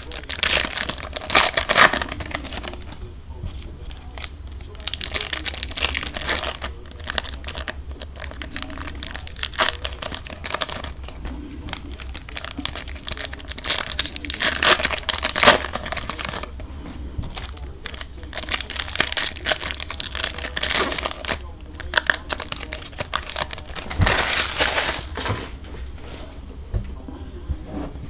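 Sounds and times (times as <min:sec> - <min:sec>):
foil wrappers crackling: 0:00.0 - 0:25.6
steady low hum: 0:00.0 - 0:28.0.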